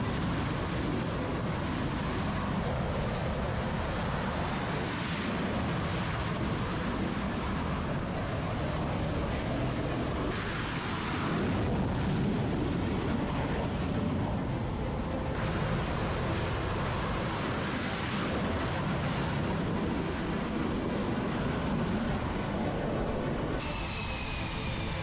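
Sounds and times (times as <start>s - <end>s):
jet engines running: 0.0s - 25.0s
wind buffeting microphone: 0.0s - 25.0s.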